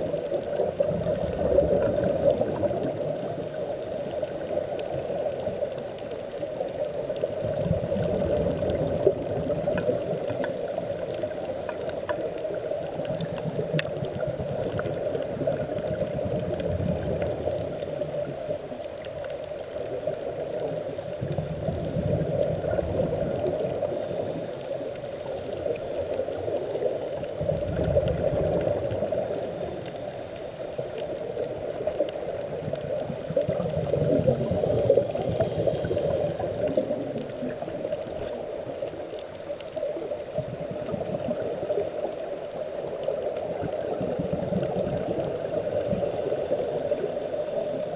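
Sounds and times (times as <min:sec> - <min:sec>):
muffled underwater hum: 0:00.0 - 0:47.9
underwater bubbles gurgling: 0:00.0 - 0:47.9.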